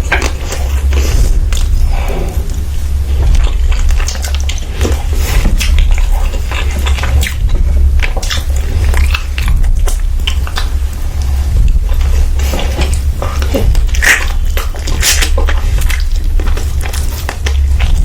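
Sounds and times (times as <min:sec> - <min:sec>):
chewing and lip smacking: 0:00.0 - 0:18.0
steady low hum: 0:00.0 - 0:18.0.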